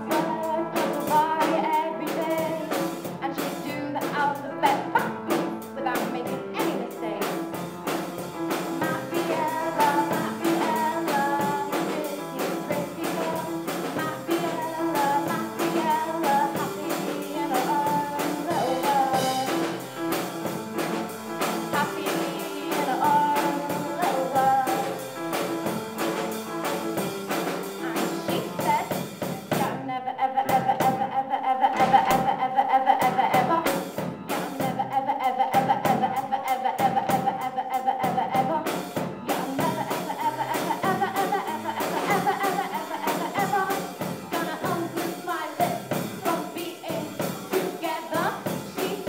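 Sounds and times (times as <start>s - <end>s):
woman singing into a microphone: 0.0s - 7.5s, 8.7s - 19.8s, 21.6s - 25.0s, 27.6s - 49.0s
drum kit beat: 0.0s - 49.0s
upright piano: 0.0s - 49.0s.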